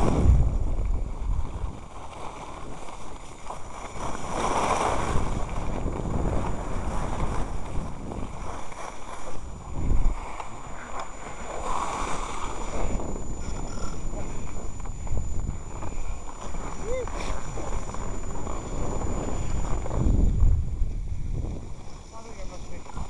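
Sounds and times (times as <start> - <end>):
skis scraping over snow: 0.0 - 23.0
wind buffeting microphone: 0.0 - 23.0.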